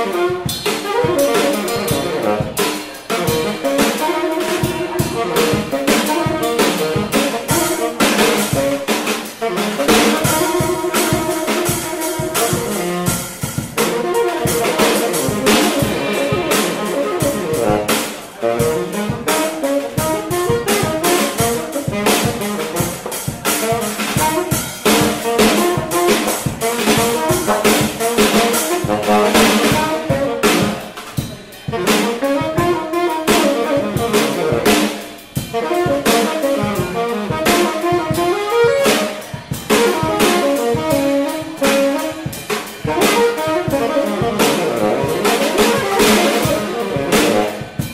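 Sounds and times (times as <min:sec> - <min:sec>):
drum kit with rimshots: 0:00.0 - 0:47.9
saxophone melody: 0:00.0 - 0:47.9.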